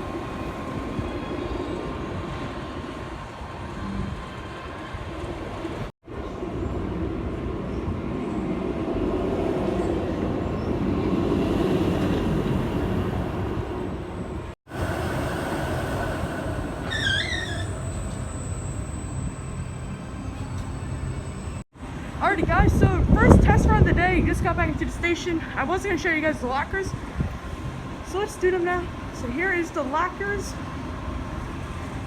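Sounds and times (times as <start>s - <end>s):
roller coaster wheel rumble: 0.0s - 32.0s.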